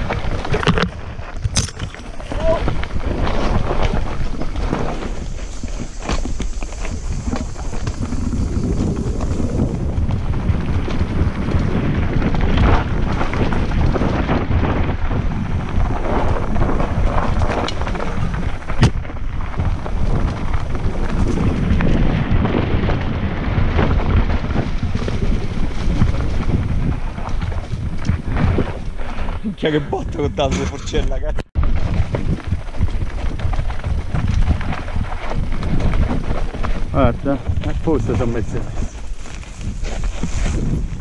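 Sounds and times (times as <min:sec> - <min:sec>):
bike tyres rumbling on stones: 0:00.0 - 0:41.0
wind on microphone: 0:00.0 - 0:41.0.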